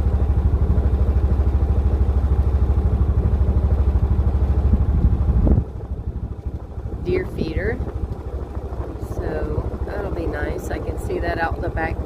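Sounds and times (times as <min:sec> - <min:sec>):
engine running with pulsing throb: 0:00.0 - 0:12.0.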